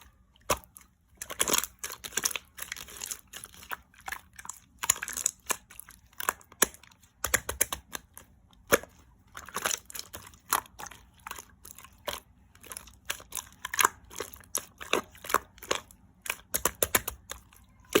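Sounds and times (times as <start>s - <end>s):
slime squished by hand: 0.0s - 18.0s.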